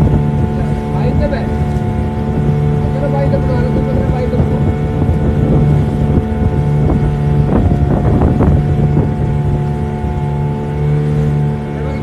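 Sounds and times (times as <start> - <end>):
boat motor running: 0.0 - 12.0
wind rumbling on microphone: 0.0 - 12.0.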